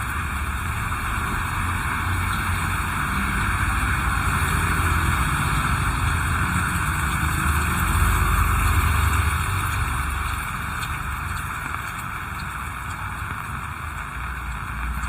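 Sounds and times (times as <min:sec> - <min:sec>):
heavy rain falling: 0:00.0 - 0:15.0
passing vehicle engine rumble: 0:00.0 - 0:15.0.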